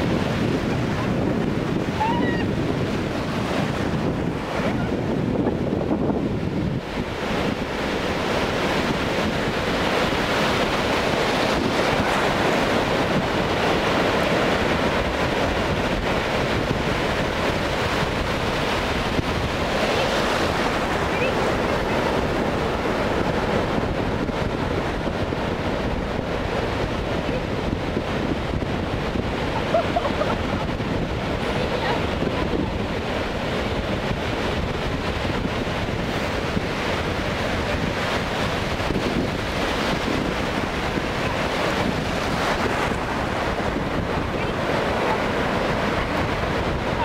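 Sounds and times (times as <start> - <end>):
ocean surf breaking: 0.0 - 47.0
wind buffeting microphone: 0.0 - 47.0.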